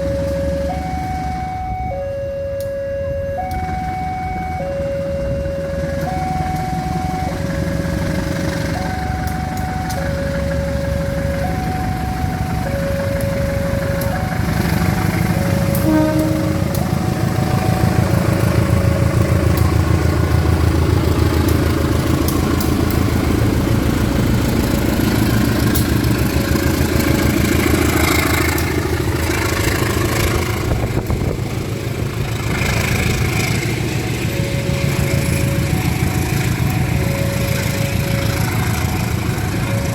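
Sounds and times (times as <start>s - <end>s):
diesel locomotive engine roaring: 0.0s - 39.9s.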